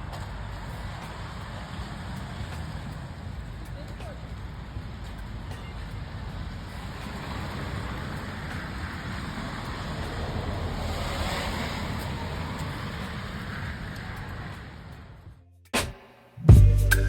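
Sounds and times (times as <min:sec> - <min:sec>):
wet snow and rain falling: 0:00.0 - 0:15.2.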